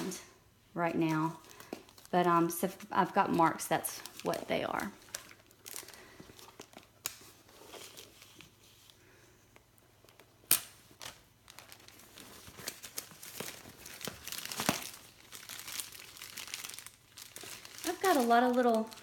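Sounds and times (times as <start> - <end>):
plastic tape crinkling: 1.0 - 9.0, 10.0 - 19.0.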